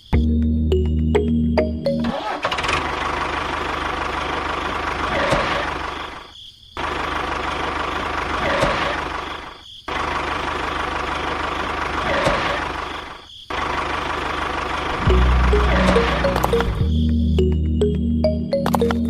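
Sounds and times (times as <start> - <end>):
tractor engine running: 1.2 - 6.2, 6.8 - 19.0.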